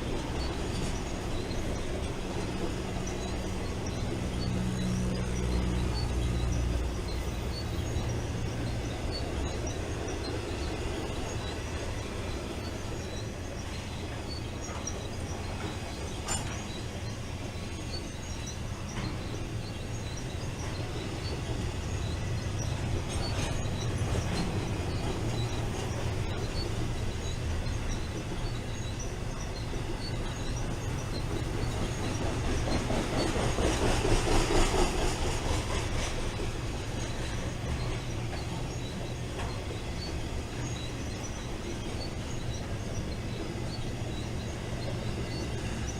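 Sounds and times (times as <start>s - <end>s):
freight train wheels rumbling: 0.0s - 45.9s.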